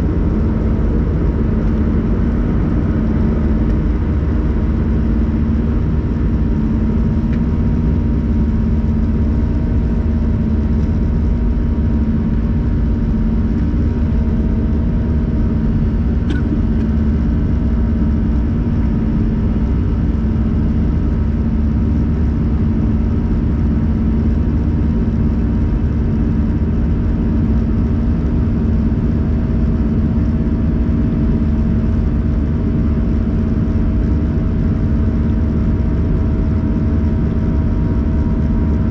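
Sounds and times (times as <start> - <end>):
airliner cabin engine drone: 0.0 - 38.9
low hum: 0.0 - 38.9.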